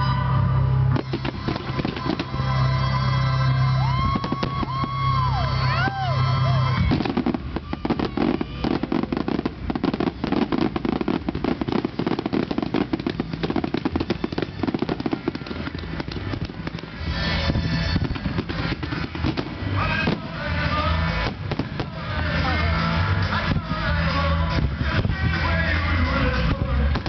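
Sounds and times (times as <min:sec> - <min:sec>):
music: 0:00.0 - 0:27.0
fireworks bursting and crackling: 0:00.9 - 0:27.0.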